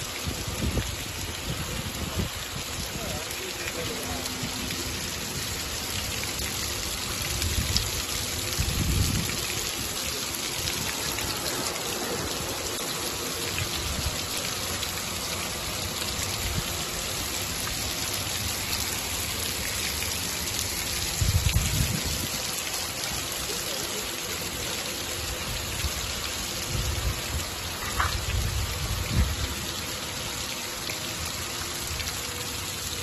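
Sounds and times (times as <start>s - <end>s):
fountain water pattering on concrete: 0.0s - 33.0s.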